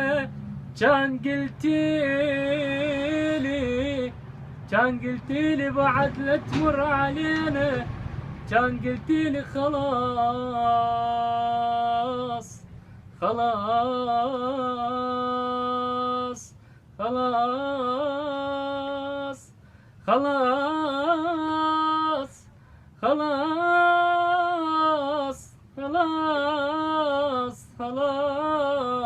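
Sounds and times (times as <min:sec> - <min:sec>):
man singing unaccompanied: 0:00.0 - 0:29.0.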